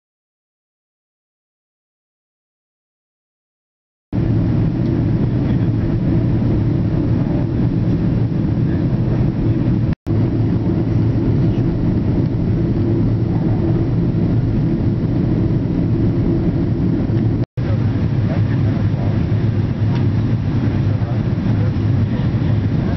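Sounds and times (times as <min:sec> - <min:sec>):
air rushing past fuselage: 0:04.2 - 0:22.9
aircraft engines rumbling: 0:04.2 - 0:22.9.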